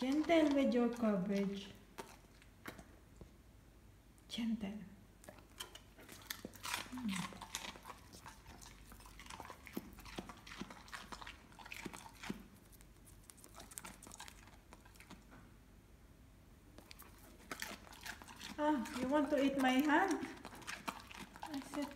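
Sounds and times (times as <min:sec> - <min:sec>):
dog crunching raw vegetables: 0:00.0 - 0:03.2, 0:05.2 - 0:15.4, 0:16.7 - 0:21.9.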